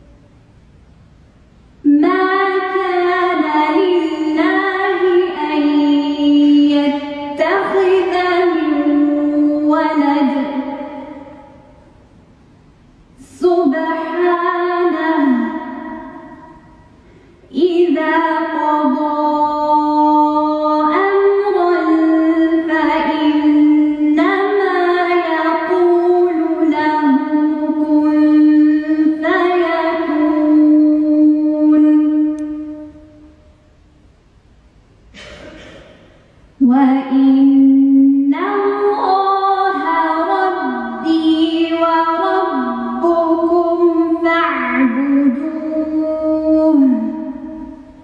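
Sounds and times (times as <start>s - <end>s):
woman chanting recitation: 1.8s - 11.9s, 13.2s - 33.4s, 36.6s - 48.0s.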